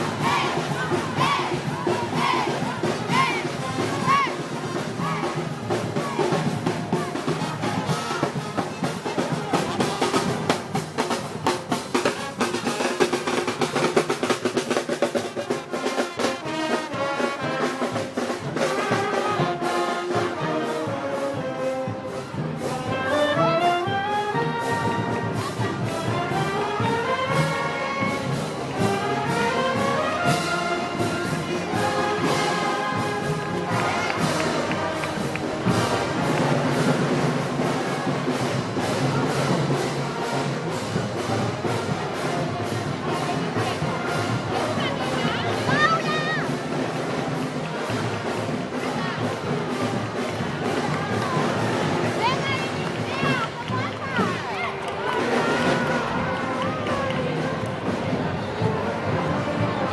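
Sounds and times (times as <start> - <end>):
brass band playing a march: 0.0 - 59.9
drums keeping a beat: 0.0 - 59.9.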